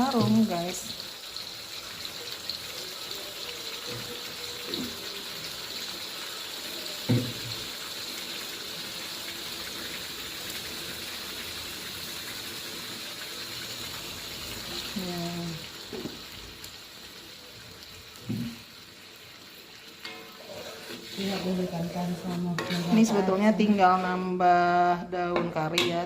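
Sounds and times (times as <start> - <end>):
paste sizzling in hot oil: 0.0 - 24.6.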